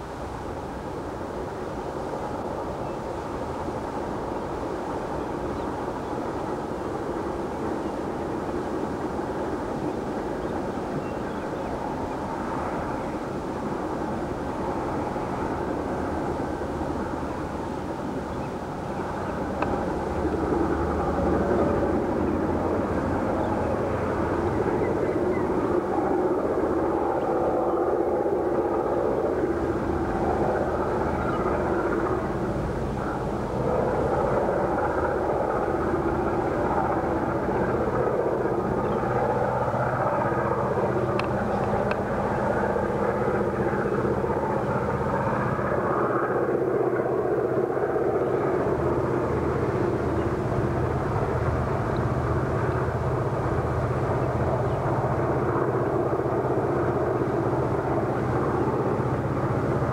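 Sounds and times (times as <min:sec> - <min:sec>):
diesel locomotive engines running: 0:00.0 - 0:59.9.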